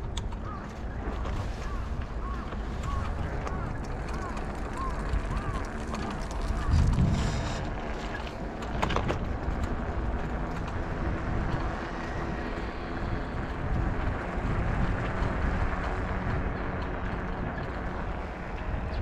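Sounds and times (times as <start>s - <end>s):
bicycle tyre rumble: 0.0s - 19.0s
wind over microphone: 0.0s - 19.0s.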